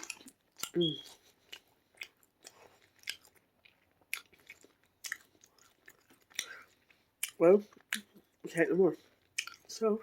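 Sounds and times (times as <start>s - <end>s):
wet mouth clicks and smacks: 0.0s - 8.4s, 9.3s - 9.7s
person chewing food: 0.0s - 9.9s.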